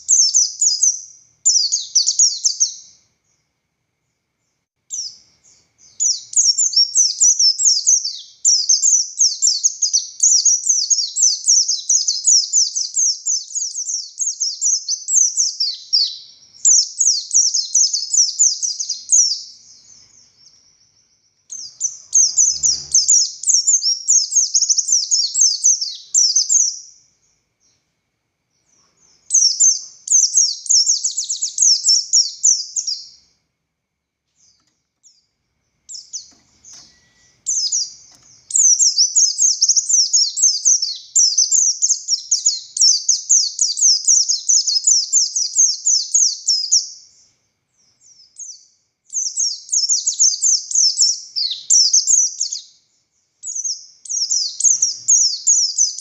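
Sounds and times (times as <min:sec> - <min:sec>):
bird twittering song: 0:00.0 - 0:27.9, 0:28.5 - 0:33.4, 0:34.3 - 0:56.0.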